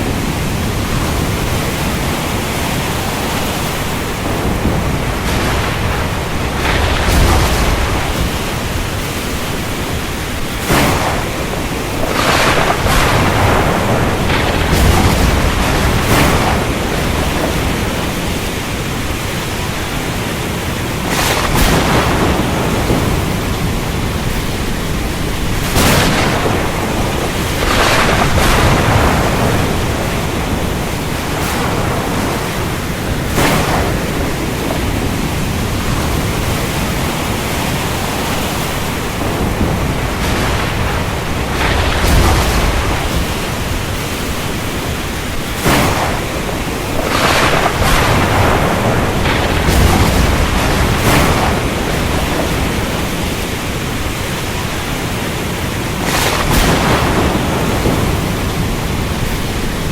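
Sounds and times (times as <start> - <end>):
heavy rain: 0.0 - 59.9
thunder cracks and rumble: 0.0 - 59.9.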